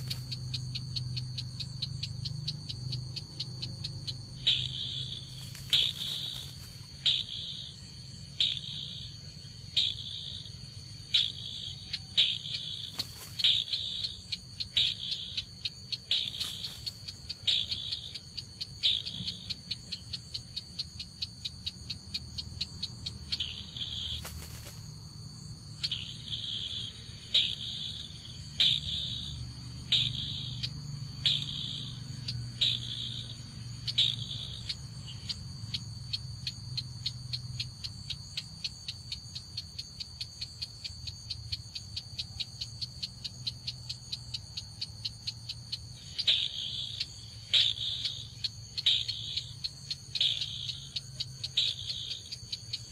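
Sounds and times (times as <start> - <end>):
bird ticking call: 0.0 - 24.9, 25.7 - 52.9.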